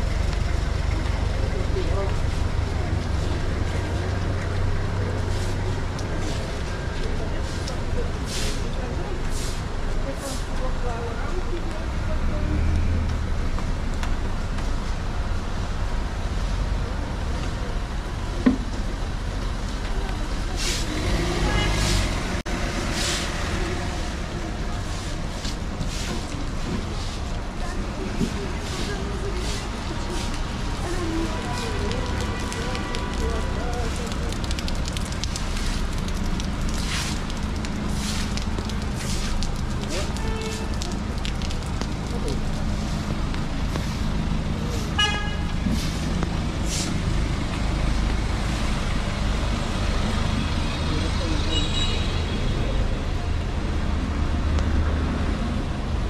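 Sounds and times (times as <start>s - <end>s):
low traffic rumble: 0.0s - 56.0s
tyres hissing on wet road: 0.0s - 56.0s.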